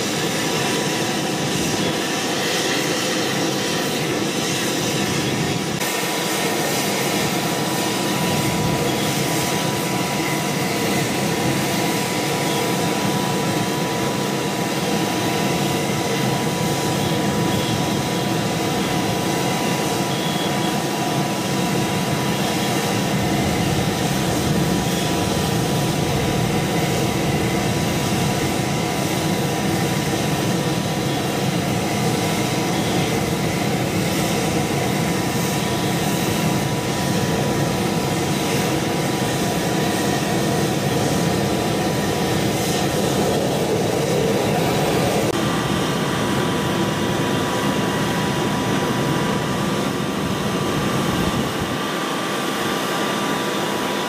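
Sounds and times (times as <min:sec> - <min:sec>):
helicopter turbine whine: 0:00.0 - 0:54.0.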